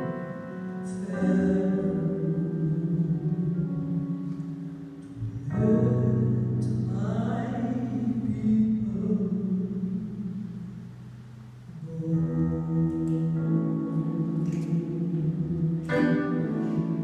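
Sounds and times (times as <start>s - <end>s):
person singing with vibrato: 0.0s - 11.1s, 11.7s - 17.0s
sustained keyboard chords: 0.0s - 17.0s.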